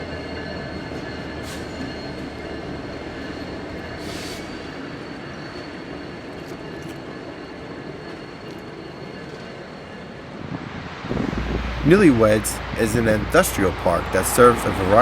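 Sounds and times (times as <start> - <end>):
freight train rolling: 0.0 - 15.0
high-pitched wheel squeal: 0.0 - 15.0.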